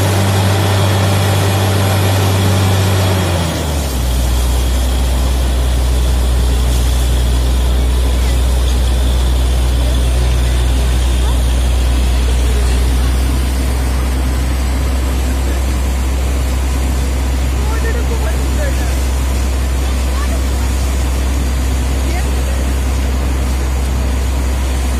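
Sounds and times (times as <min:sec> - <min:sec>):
compressed air blasting water: 0:00.0 - 0:24.9
drilling rig engine drone: 0:00.0 - 0:24.9.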